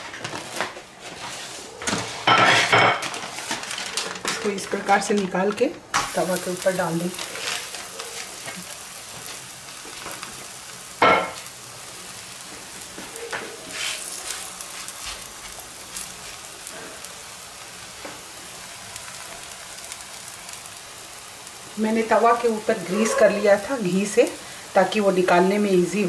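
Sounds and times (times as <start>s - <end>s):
flatbread sizzling on a griddle: 1.1s - 26.0s.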